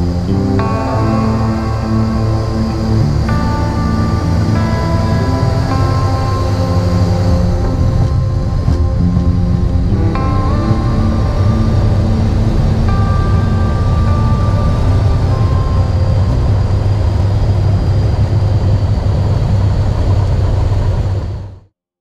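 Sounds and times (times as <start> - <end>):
light aircraft engine drone: 0.0 - 21.6.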